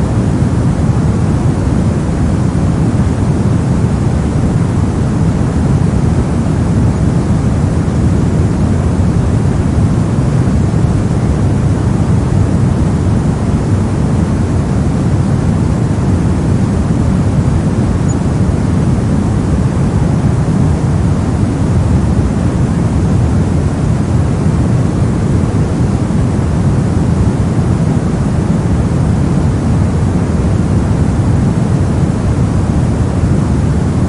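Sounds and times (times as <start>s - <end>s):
brown noise: 0.0s - 34.0s.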